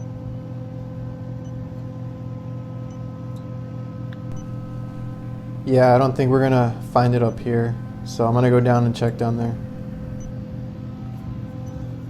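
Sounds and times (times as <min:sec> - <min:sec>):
condensing unit humming: 0:00.0 - 0:12.0.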